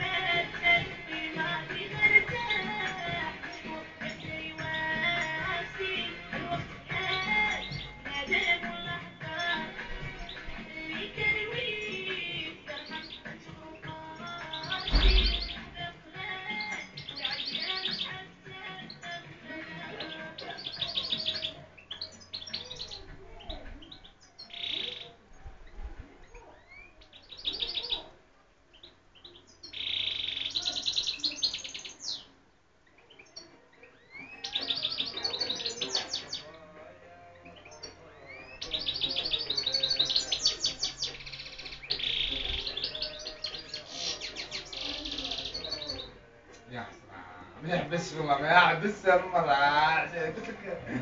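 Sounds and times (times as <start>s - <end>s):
goldfinch singing: 0.0s - 51.0s.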